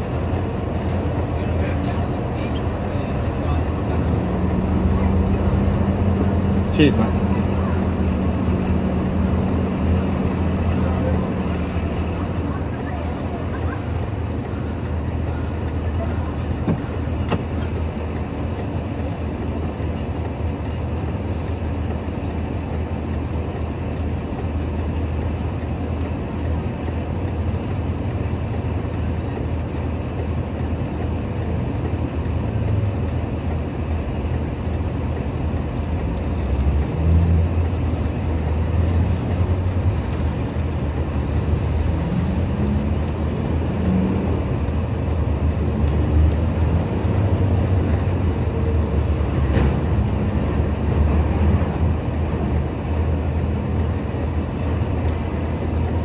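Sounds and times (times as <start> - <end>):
loader engine rumbling: 0.0 - 56.0.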